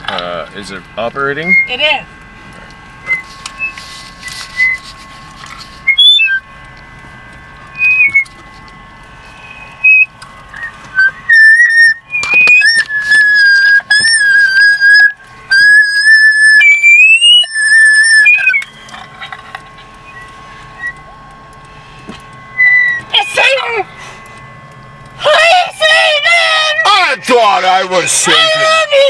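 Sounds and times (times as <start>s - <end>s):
faint high electronic tone: 0.0s - 29.0s
high whistle notes: 1.2s - 2.0s, 3.0s - 6.6s, 7.2s - 8.5s, 9.2s - 19.2s, 20.0s - 21.2s, 22.4s - 29.0s.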